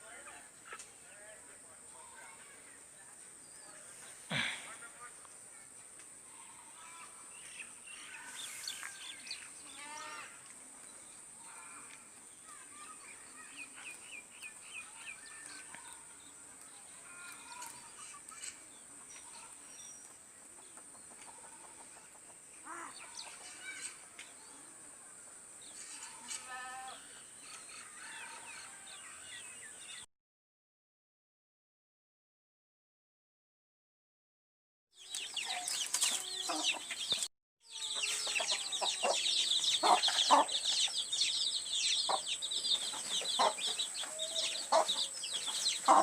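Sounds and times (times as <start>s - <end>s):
birds chirping and calling: 0.0s - 5.6s, 6.3s - 25.0s, 25.6s - 30.0s, 35.0s - 46.0s.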